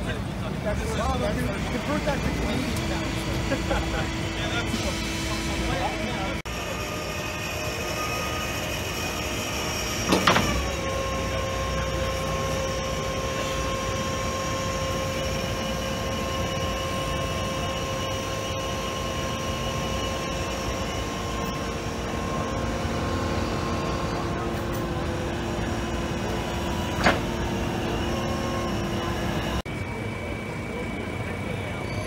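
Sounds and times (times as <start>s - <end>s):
construction machinery whine: 0.0s - 32.0s.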